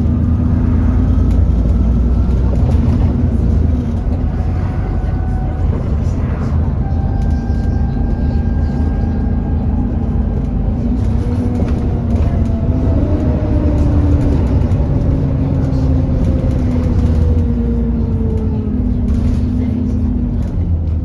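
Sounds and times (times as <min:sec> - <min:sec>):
bus engine rumble with whine: 0:00.0 - 0:21.0.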